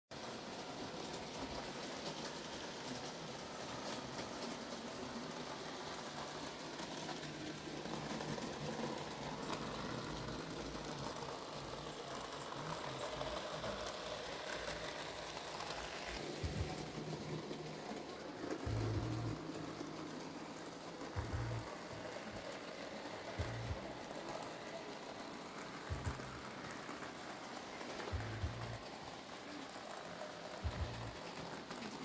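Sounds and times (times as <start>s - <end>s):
whir of small electric motors: 0.2s - 32.0s.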